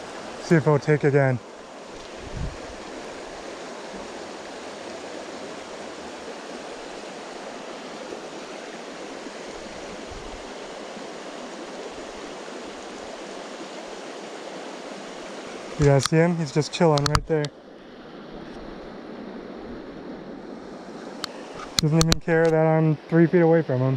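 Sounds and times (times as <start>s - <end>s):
creek water rushing over stones: 0.0s - 23.8s.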